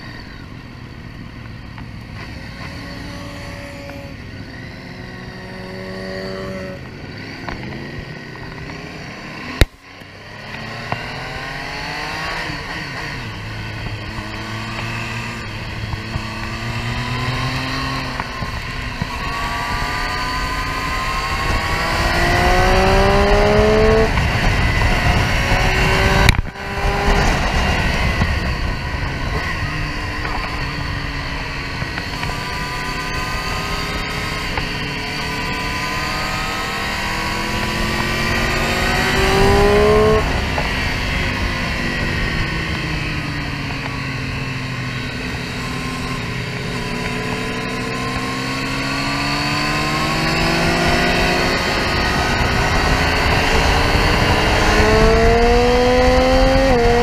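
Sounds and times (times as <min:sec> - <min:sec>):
motorcycle engine accelerating: 0:00.0 - 0:57.0
wind noise: 0:10.2 - 0:57.0.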